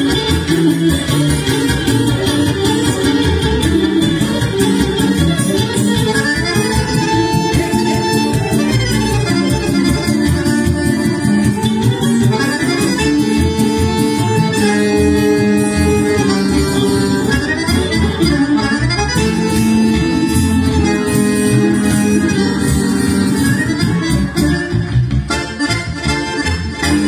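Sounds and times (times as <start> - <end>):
electric bass guitar: 0.0 - 27.0
guitar rhythm: 0.0 - 27.0
sustained chords and melody: 0.0 - 27.0.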